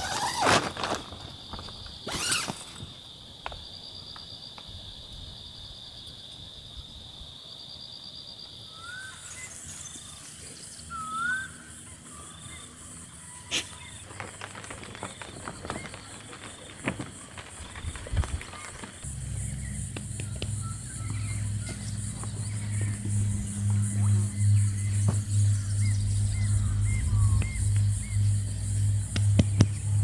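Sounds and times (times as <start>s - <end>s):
hissing insect chorus: 0.0s - 30.0s
insect drone: 0.0s - 30.0s.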